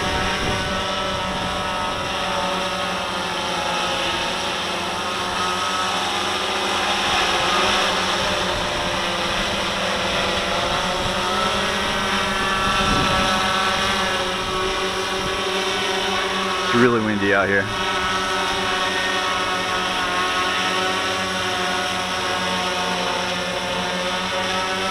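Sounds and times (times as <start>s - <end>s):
drone propellers buzzing: 0.0s - 24.9s.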